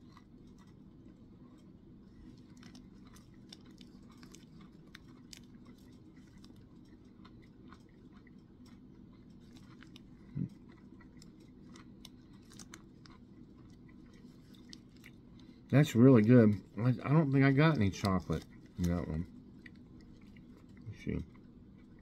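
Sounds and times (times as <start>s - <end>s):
person chewing granola bar: 0.0s - 22.0s.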